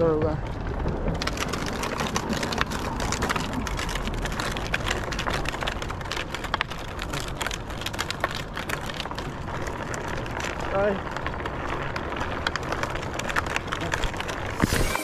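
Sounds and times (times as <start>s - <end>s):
cart rattling over pavement: 0.0s - 15.0s.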